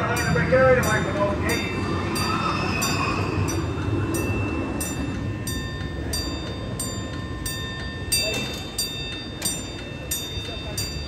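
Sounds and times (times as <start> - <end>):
railroad crossing bell ringing: 0.0 - 11.0.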